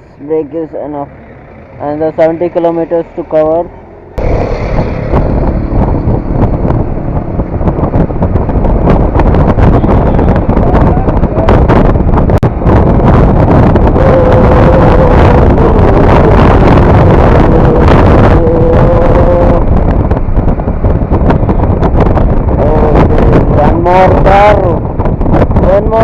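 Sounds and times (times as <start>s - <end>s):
wind buffeting microphone: 0.0s - 26.0s
motorcycle engine: 0.8s - 26.0s.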